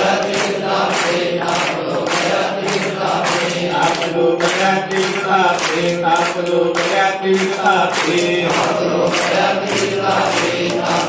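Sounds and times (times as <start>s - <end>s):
men chanting in unison: 0.0s - 11.0s
sharp rhythmic strikes: 0.0s - 11.0s.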